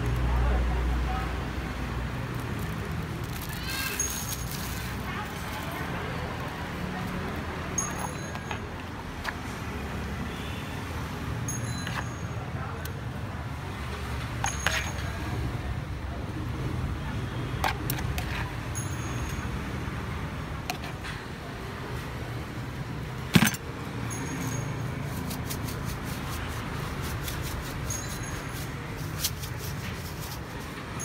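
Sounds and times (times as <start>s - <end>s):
street traffic rumble: 0.0s - 31.0s.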